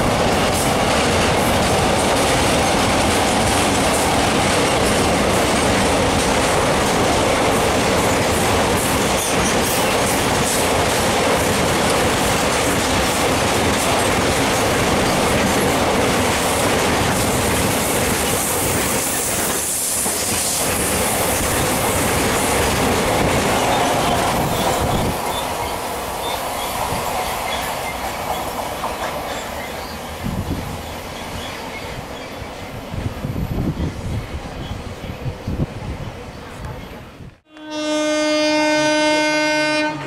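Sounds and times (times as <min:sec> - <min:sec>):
train wheels rushing on rails: 0:00.0 - 0:37.5.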